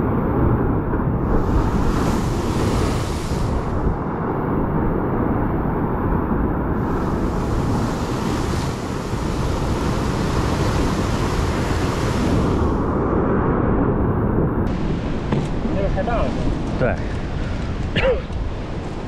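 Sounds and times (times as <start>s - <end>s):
wind rumbling on microphone: 0.0s - 19.0s
ocean surf breaking on rocks: 0.4s - 13.5s, 14.7s - 19.0s.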